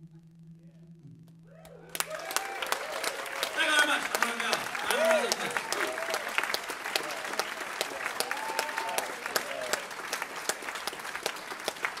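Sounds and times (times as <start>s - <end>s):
audience clapping: 1.9s - 12.0s.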